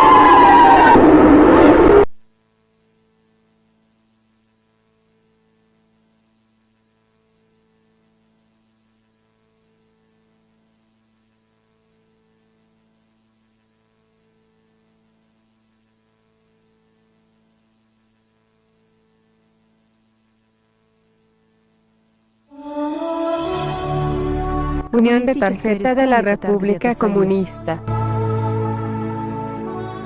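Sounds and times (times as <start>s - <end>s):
faint electronic hum: 0.0s - 30.0s.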